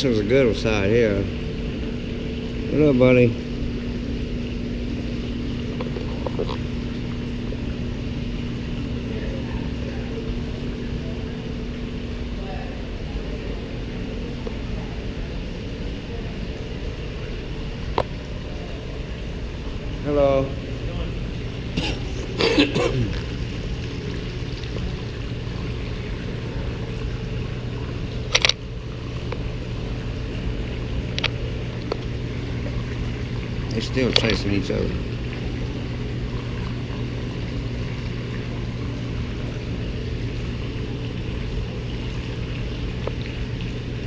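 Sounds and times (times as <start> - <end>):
machine hum: 0.0 - 44.0
trickling water: 0.0 - 44.0.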